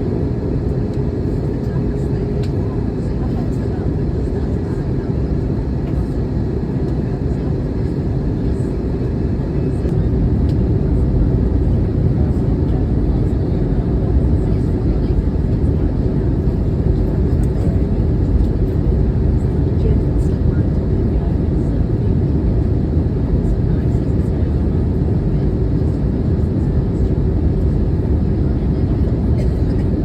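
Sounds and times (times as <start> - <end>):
airliner engine roar in cabin: 0.0 - 30.0.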